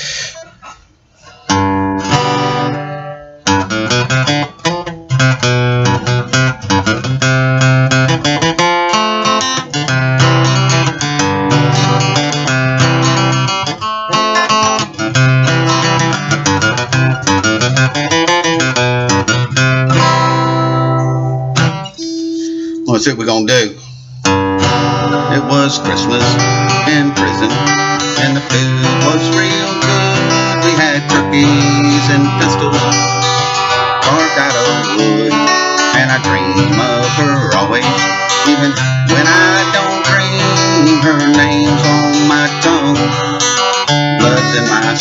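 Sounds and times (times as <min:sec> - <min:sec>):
acoustic guitar playing: 0:00.4 - 0:45.0.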